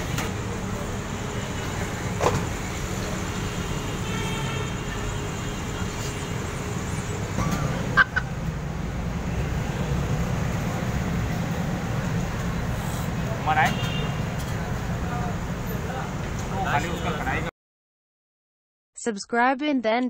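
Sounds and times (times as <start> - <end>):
urban background rumble: 0.0 - 17.5.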